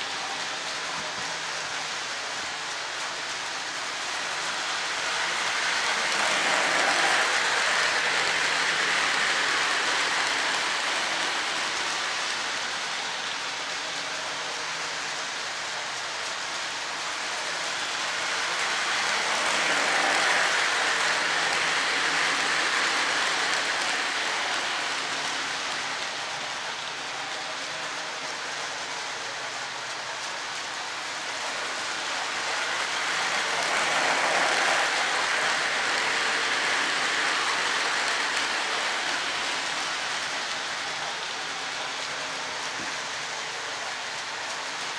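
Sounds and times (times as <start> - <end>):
model train wheels rolling on rails: 0.0 - 44.9.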